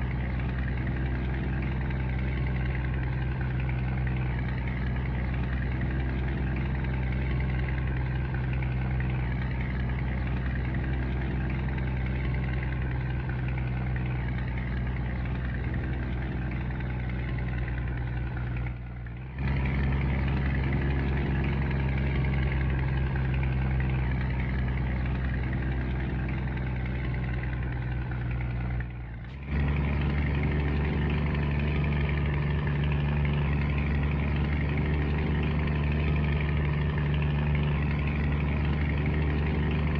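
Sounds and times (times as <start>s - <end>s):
truck diesel engine humming: 0.0s - 39.9s.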